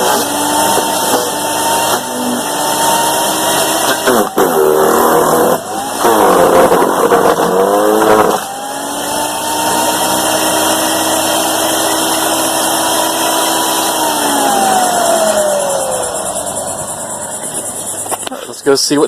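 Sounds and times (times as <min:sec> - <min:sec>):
wood chipper chewing branch: 0:00.0 - 0:18.4.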